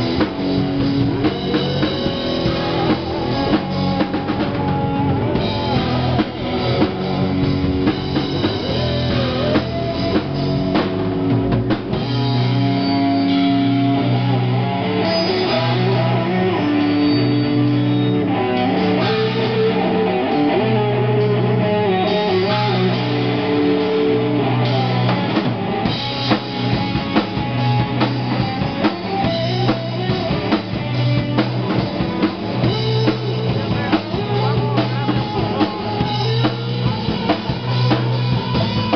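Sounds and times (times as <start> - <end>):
bass guitar: 0.0 - 38.9
distorted electric guitar: 0.0 - 38.9
drum kit: 0.0 - 38.9.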